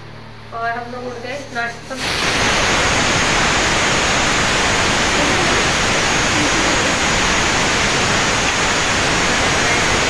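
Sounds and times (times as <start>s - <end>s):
pressure cooker steam hissing: 1.2s - 10.0s.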